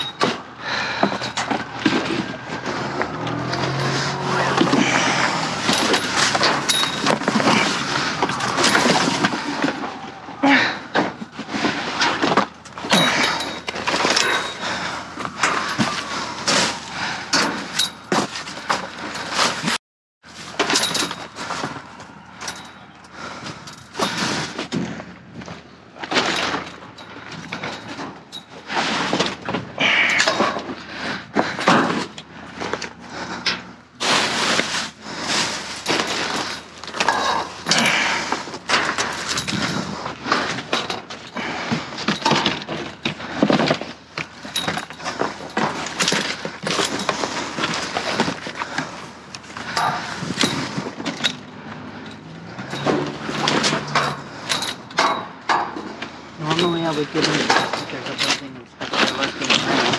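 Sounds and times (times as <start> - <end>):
objects clattering in a dumpster: 0.0 - 59.9.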